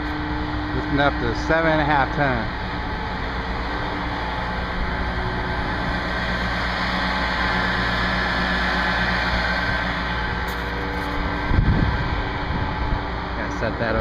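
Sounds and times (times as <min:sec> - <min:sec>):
lifting machine engine running: 0:00.0 - 0:14.0.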